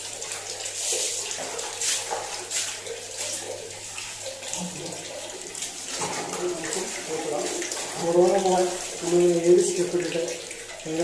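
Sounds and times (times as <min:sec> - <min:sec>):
bath water running and splashing: 0:00.0 - 0:11.0.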